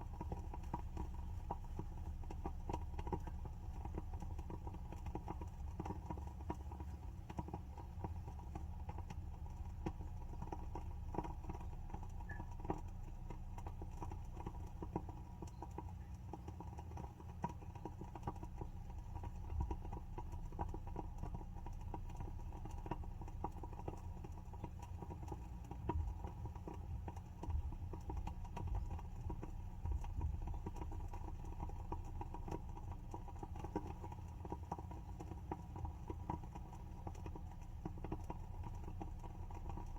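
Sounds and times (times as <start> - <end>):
candle wick crackling: 0.0 - 39.9
low steady hum: 0.0 - 39.9.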